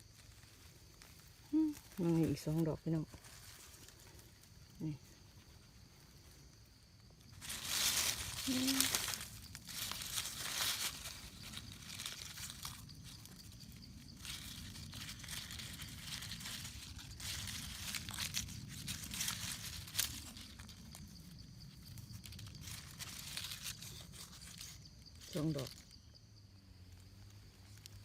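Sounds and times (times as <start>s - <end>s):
dry leaves rustling and crackling: 0.0s - 28.0s.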